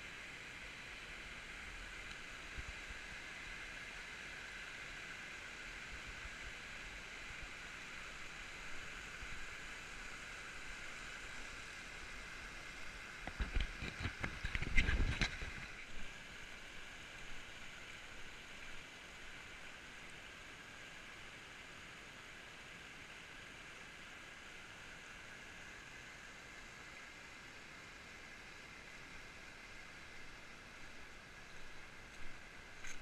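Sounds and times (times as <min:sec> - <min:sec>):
stream rushing over stones: 0:00.0 - 0:33.0.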